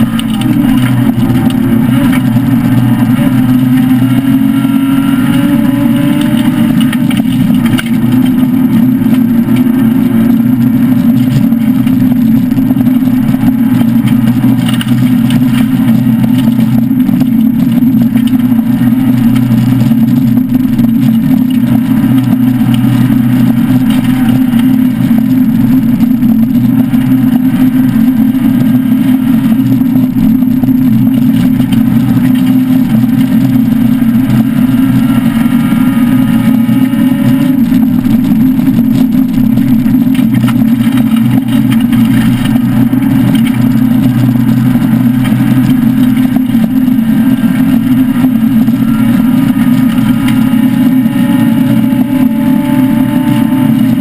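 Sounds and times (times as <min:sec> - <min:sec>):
rally car engine droning: 0:00.0 - 0:54.0.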